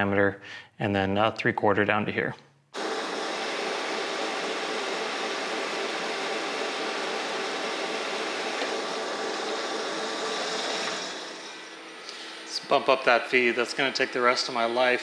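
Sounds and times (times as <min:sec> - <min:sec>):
metal lathe whirring: 0:02.8 - 0:15.0.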